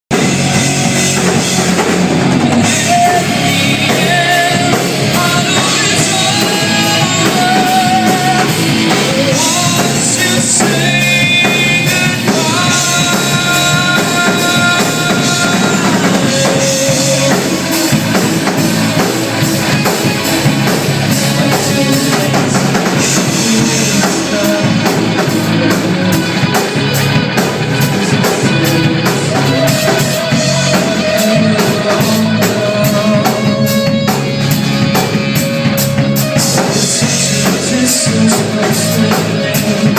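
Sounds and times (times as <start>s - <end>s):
rock band playing live: 0.0s - 39.9s
person singing: 0.1s - 39.9s.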